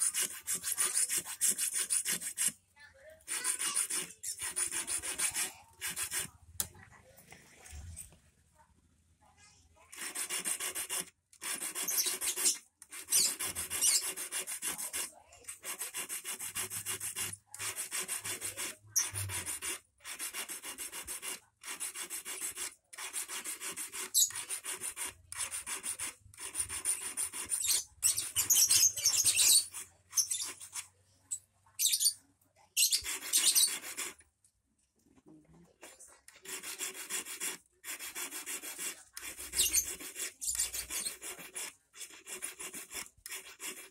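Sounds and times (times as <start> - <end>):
hand file rasping on wire: 0.0 - 2.6, 3.2 - 6.4, 9.9 - 31.0, 32.8 - 34.3, 35.9 - 43.9.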